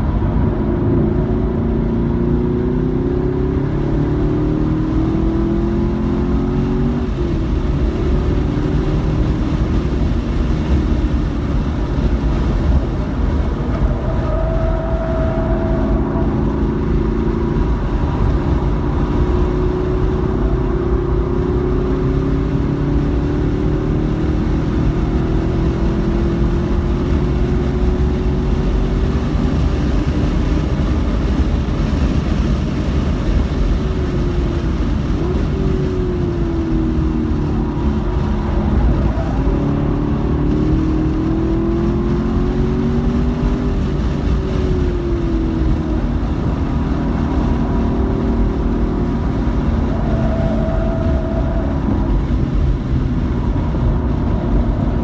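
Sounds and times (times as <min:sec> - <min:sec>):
car engine accelerating: 0:00.0 - 0:55.0
wind and road noise: 0:00.0 - 0:55.0.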